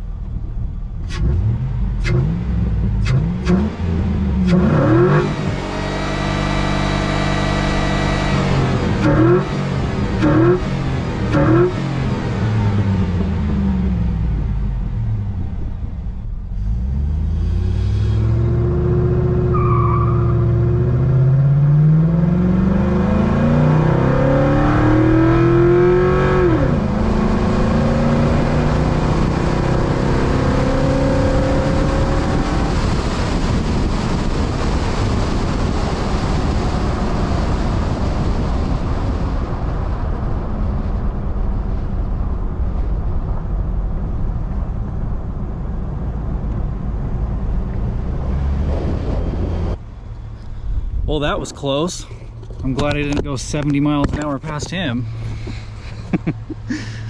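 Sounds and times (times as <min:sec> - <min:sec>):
road and wind noise: 0:00.0 - 0:57.0
engine accelerating hard: 0:00.7 - 0:41.4, 0:42.2 - 0:57.0.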